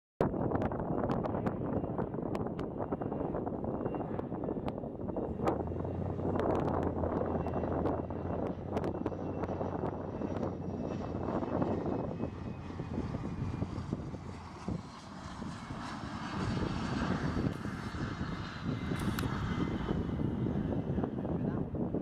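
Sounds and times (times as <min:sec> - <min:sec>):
jet engines whining: 0:00.4 - 0:22.0.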